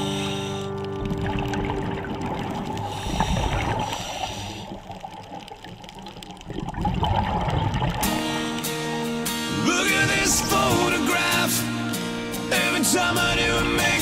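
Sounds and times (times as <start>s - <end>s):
underwater bubbling: 0.0s - 12.0s.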